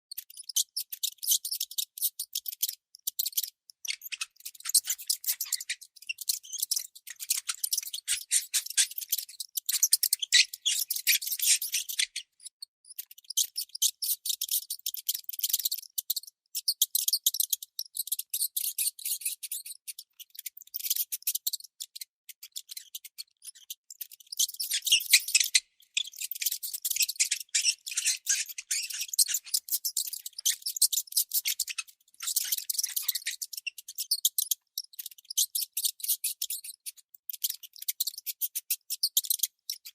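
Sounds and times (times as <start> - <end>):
baby mouse squeaking: 0.1 - 39.9.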